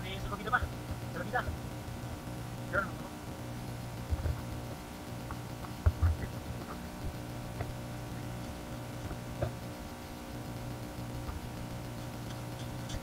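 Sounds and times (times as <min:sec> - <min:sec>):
muffled underwater hum: 0:00.0 - 0:13.0.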